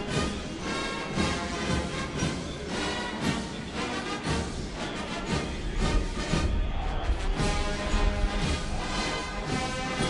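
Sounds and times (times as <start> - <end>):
brass band playing a march: 0.0 - 10.0.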